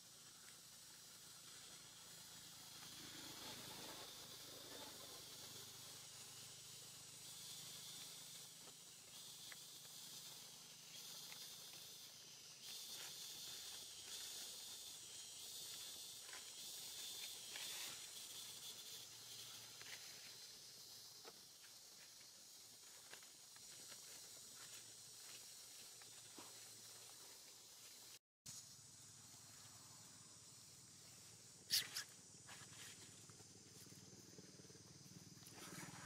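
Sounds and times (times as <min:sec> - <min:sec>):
high-pitched hiss: 0:00.0 - 0:36.0.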